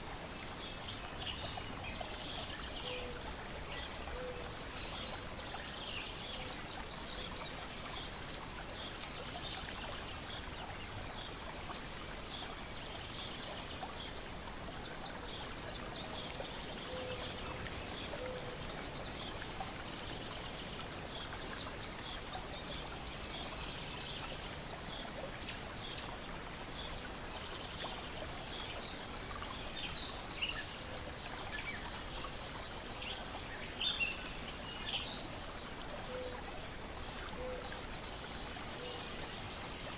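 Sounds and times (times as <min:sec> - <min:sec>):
water lapping at shore: 0:00.0 - 0:39.9.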